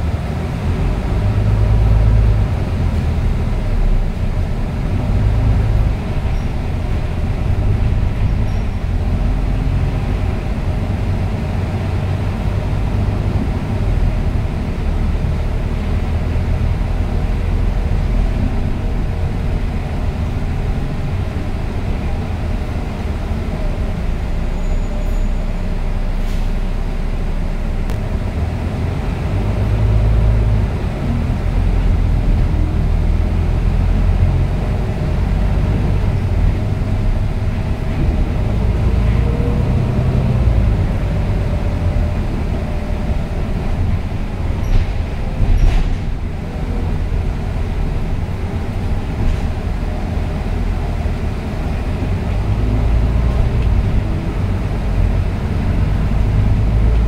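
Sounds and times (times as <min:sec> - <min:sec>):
bus diesel engine drone: 0:00.0 - 0:57.0
road and tyre noise: 0:00.0 - 0:57.0.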